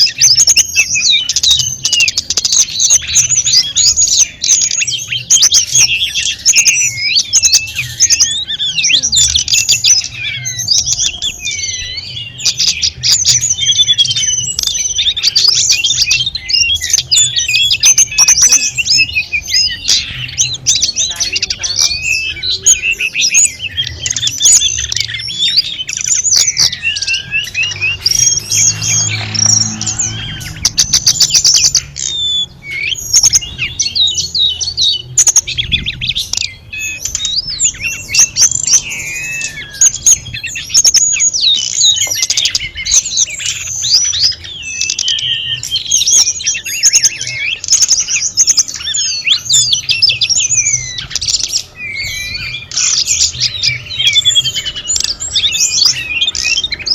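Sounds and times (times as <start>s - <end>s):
bird singing chirps and trills: 0.0s - 56.9s.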